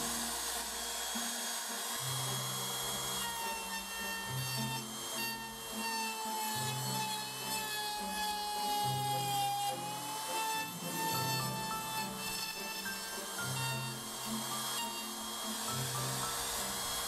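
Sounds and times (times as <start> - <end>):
background music: 0.0 - 17.0
electric router cutting wood: 0.0 - 17.0.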